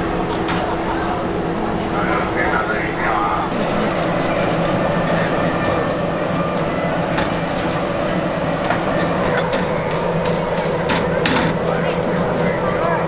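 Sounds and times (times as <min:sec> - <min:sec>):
busy street stall noise: 0:00.0 - 0:13.0
mechanical hum: 0:00.0 - 0:13.0.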